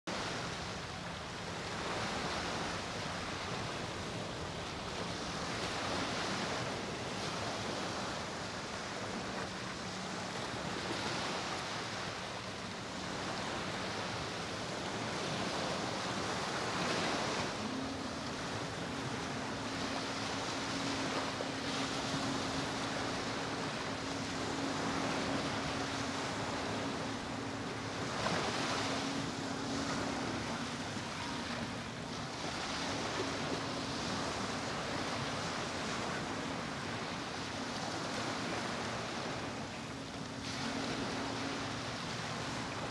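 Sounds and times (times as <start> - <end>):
waves breaking on a beach: 0.1 - 42.9.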